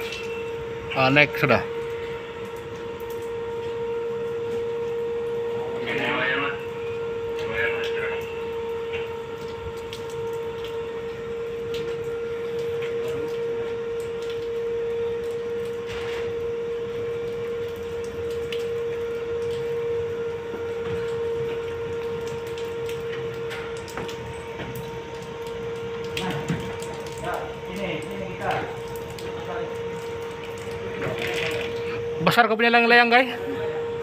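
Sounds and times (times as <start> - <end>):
crane machinery whining: 0.0 - 34.0.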